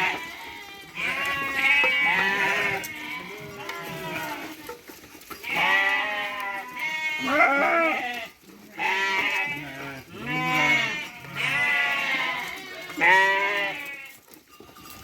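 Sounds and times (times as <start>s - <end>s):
sheep bleating: 0.0s - 4.8s, 5.4s - 14.8s.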